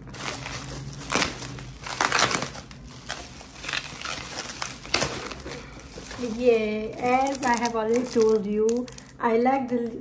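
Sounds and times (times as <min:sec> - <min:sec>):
bubble wrap crinkling: 0:00.0 - 0:09.4.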